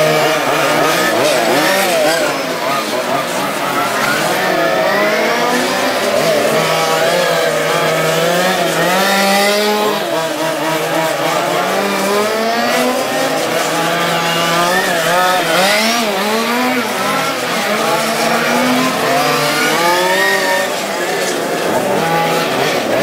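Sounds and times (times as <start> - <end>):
rc car engines racing: 0.0 - 23.0.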